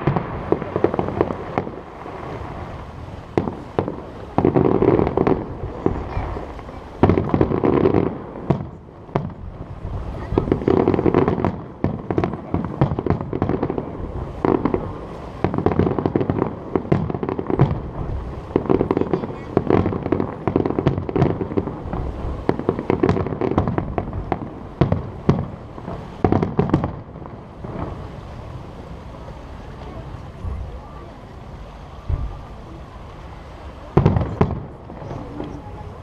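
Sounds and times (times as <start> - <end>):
firework bangs and crackles: 0.0 - 36.0.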